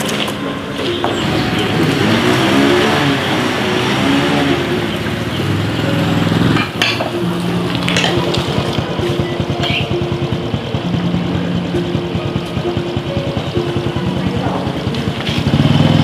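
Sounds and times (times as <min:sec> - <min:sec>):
vehicle engine revving: 0:00.0 - 0:16.0.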